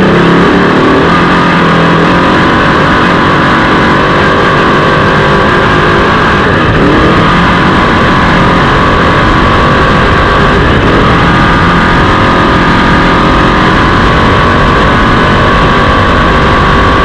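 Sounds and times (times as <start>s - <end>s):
high engine whine: 0.0s - 17.0s
off-road vehicle engine running hard: 0.0s - 17.0s.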